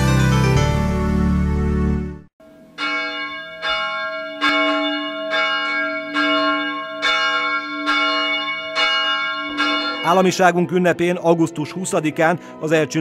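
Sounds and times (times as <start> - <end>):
church bells ringing: 2.4 - 13.0.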